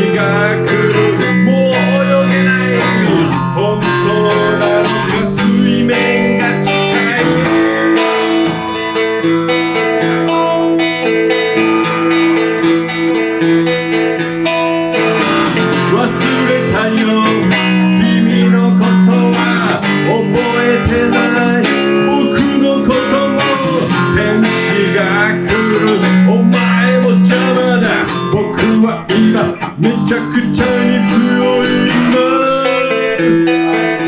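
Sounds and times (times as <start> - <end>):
electric guitar playing: 0.0 - 34.0.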